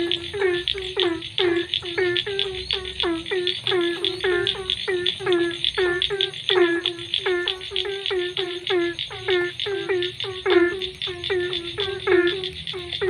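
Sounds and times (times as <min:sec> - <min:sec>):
faint steady high tones: 0:00.0 - 0:13.0
frogs croaking: 0:00.0 - 0:13.0.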